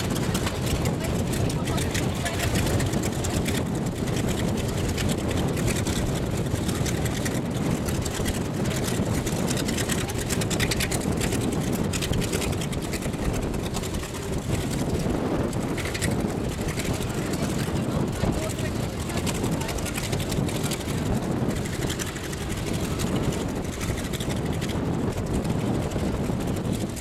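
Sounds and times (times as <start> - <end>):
piston aircraft engines rumbling: 0.0 - 27.0.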